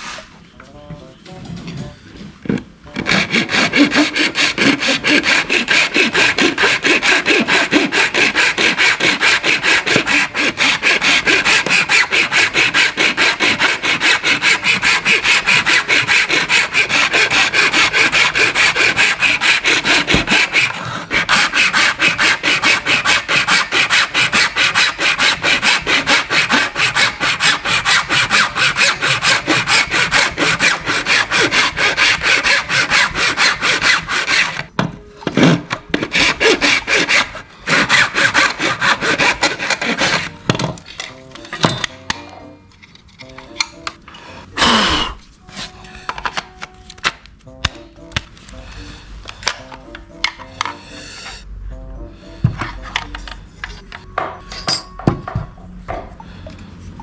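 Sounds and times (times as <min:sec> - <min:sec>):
hand tool cutting plastic: 0:01.3 - 0:50.8.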